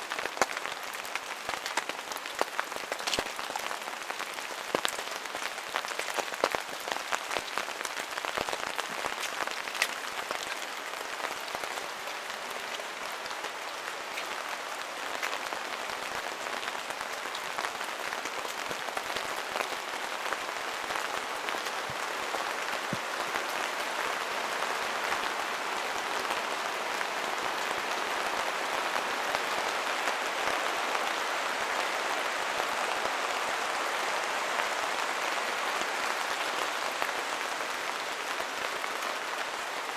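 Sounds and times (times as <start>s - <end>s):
raindrops pattering: 0.0s - 39.9s
rushing rain hiss: 0.0s - 39.9s.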